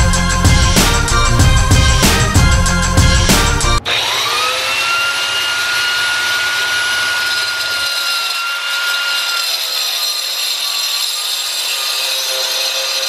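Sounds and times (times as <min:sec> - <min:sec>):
angle grinder cutting iron pipe: 0:00.0 - 0:13.0.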